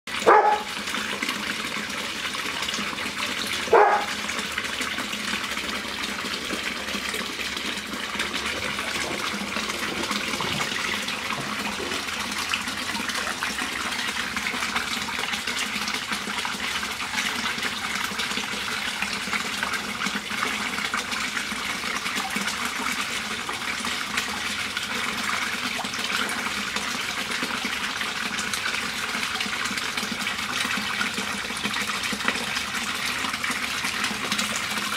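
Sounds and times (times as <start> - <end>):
water splashing into pond: 0.1 - 34.9.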